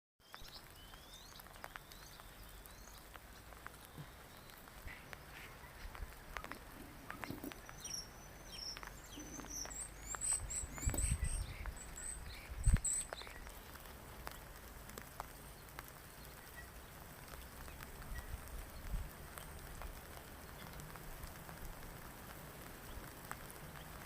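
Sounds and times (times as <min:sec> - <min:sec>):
small bird chirping: 0:00.2 - 0:14.6, 0:15.2 - 0:20.9
light rain pattering: 0:00.2 - 0:24.0.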